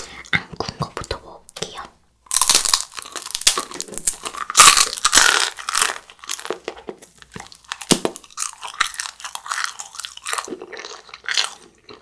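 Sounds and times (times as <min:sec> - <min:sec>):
biting and chewing chewy snack: 0:02.3 - 0:12.0.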